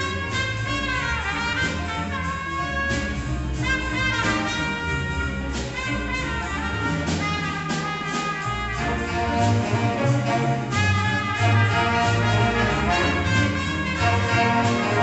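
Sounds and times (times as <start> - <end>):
jazz band playing blues: 0.0 - 15.0
piano: 0.0 - 15.0
saxophones and brass melody: 0.0 - 15.0
upright bass: 0.0 - 15.0.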